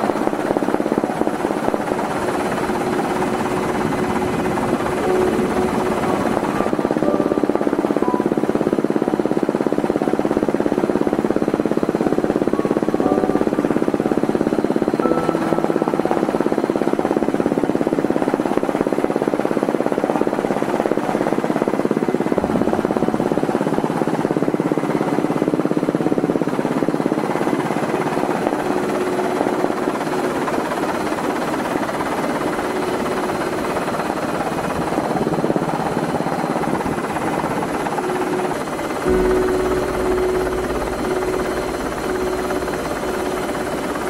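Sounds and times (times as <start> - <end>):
helicopter engine and rotor: 0.0 - 44.0.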